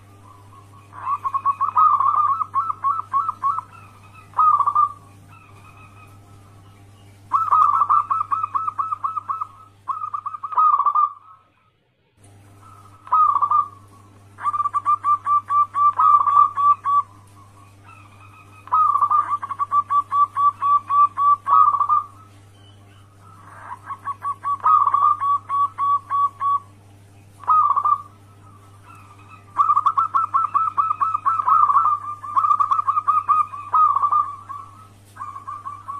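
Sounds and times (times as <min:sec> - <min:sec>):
doves cooing: 0:00.0 - 0:35.9
steady low hum: 0:00.0 - 0:35.9.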